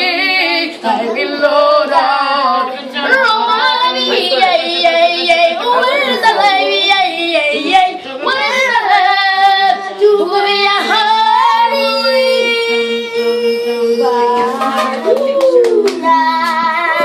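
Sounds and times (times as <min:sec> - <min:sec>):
children singing: 0:00.0 - 0:17.0.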